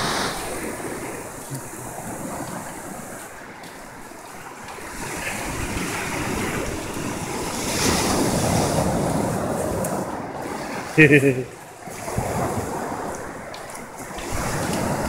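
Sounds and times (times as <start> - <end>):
ocean surf washing in: 0.0 - 15.0
wind rumbling on microphone: 0.0 - 15.0.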